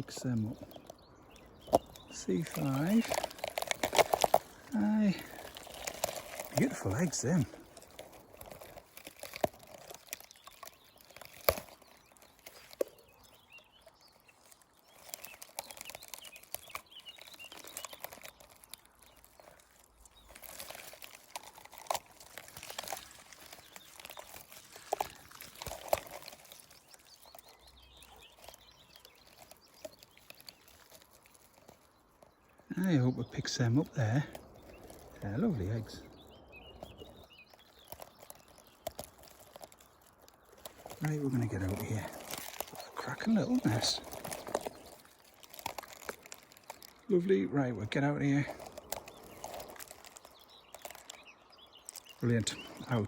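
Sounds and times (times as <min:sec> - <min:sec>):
faint birdsong: 0:00.0 - 0:53.0
rustling of leaves and twigs: 0:00.0 - 0:53.0
small twig cracks and clicks: 0:00.6 - 0:32.7, 0:34.1 - 0:47.1, 0:48.5 - 0:53.0.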